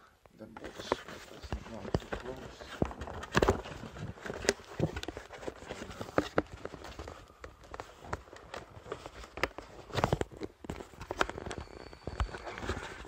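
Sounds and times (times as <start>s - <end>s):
cardboard knocking and scraping: 0.6s - 11.5s.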